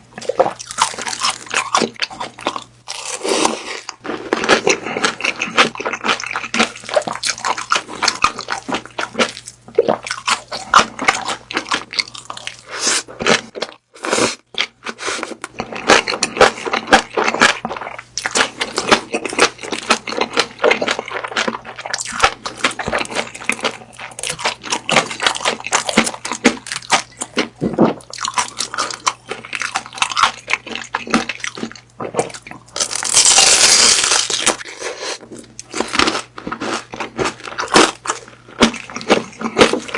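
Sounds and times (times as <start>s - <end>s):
wet chewing and crunching: 0.2s - 39.9s.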